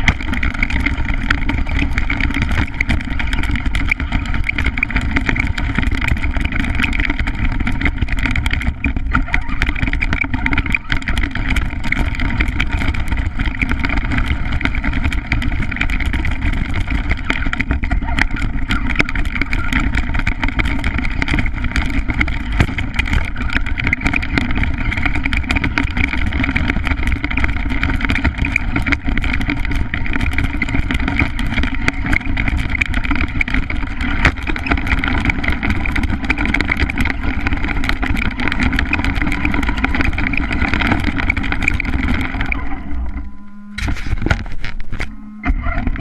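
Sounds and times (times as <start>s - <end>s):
knocks and rattles: 0.0s - 46.0s.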